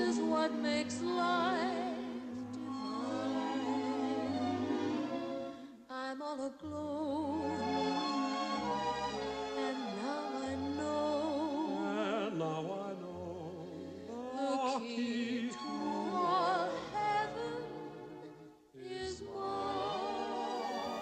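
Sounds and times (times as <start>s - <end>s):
slow romantic song: 0.0s - 21.0s.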